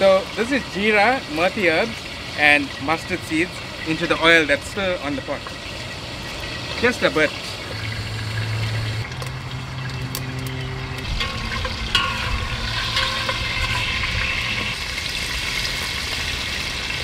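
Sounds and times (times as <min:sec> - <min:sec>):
spices sizzling in hot oil: 0:00.0 - 0:17.0.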